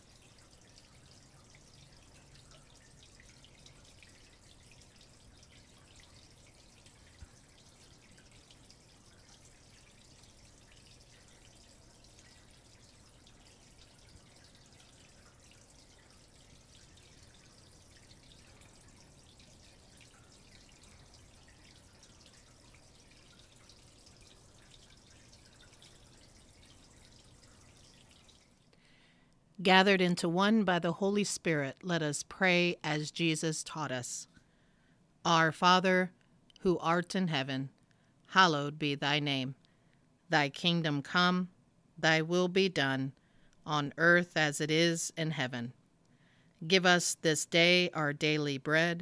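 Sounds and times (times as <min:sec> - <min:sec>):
faint steady hiss: 0:00.0 - 0:49.0.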